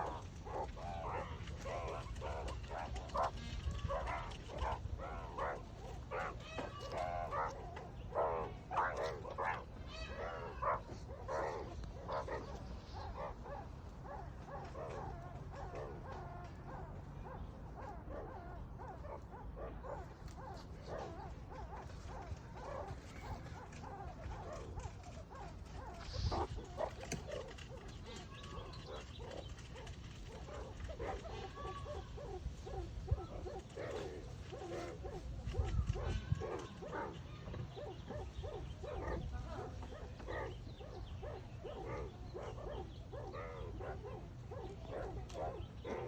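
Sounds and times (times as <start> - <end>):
meerkats chirping and yipping: 0.0 - 46.0.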